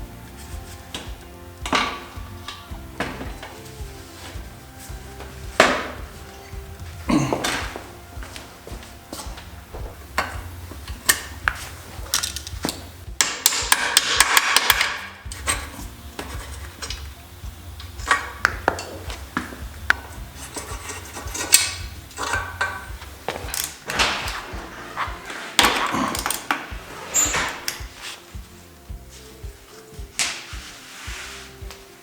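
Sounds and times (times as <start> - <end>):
hand tools knocking on metal: 0.5 - 30.3.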